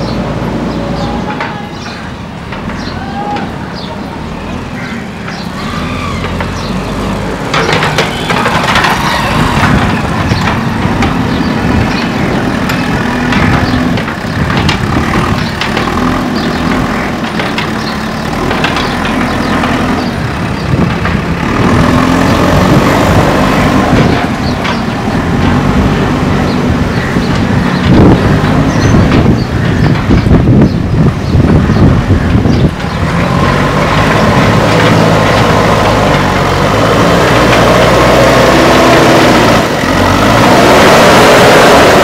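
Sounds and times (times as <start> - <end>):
diesel engine running: 0.0 - 42.0
loader bucket knocks and clanks: 5.3 - 41.0.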